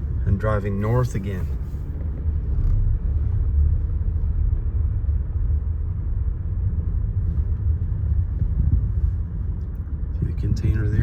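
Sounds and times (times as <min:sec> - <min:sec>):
car rumbling on unpaved track: 0:00.0 - 0:11.0.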